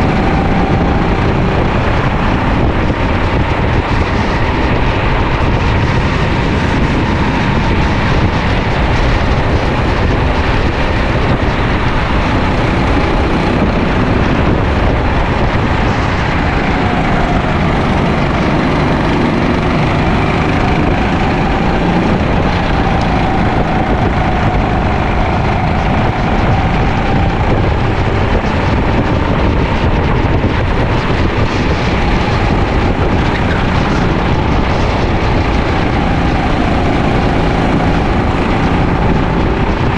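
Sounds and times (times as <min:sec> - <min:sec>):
kart engine running hard: 0:00.0 - 0:39.9
wind and road noise: 0:00.0 - 0:39.9.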